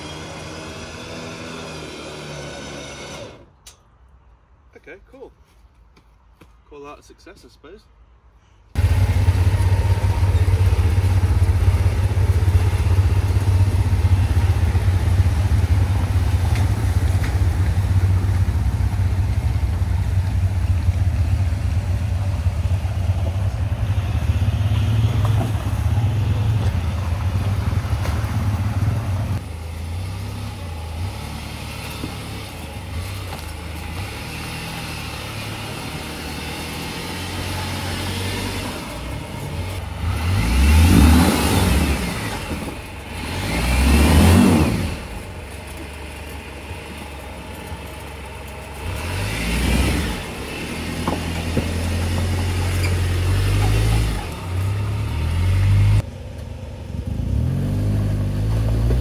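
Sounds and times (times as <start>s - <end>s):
truck engine running: 8.8s - 59.0s.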